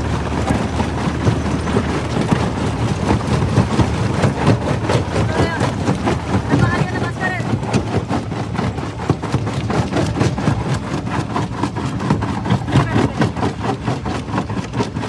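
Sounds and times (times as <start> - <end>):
jaw crusher machine drone: 0.0 - 15.0.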